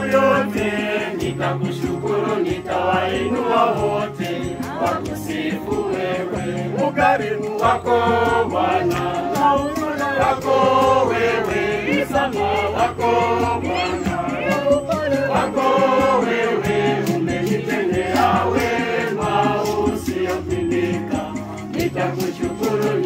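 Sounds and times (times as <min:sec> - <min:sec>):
choir singing a hymn: 0:00.0 - 0:23.0.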